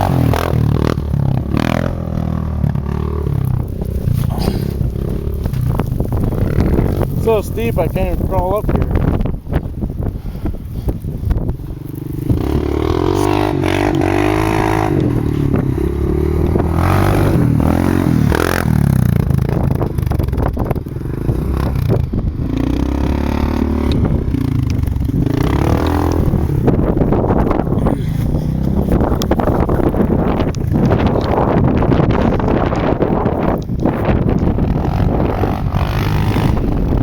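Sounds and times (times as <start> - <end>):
atv engine revving: 0.0 - 37.0.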